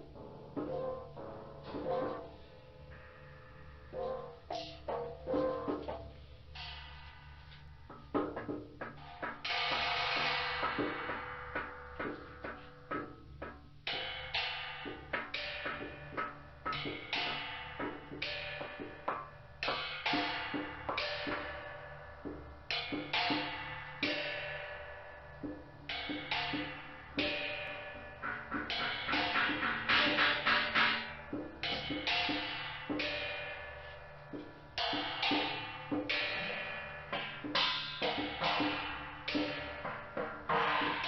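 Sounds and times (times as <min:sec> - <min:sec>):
cymbal-like hits: 0:00.0 - 0:41.0.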